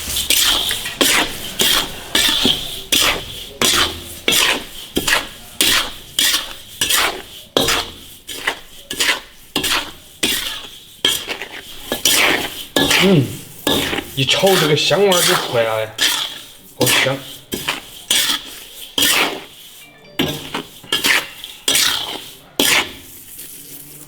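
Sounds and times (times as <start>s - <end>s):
metal spatula scraping a wok: 0.0s - 24.0s.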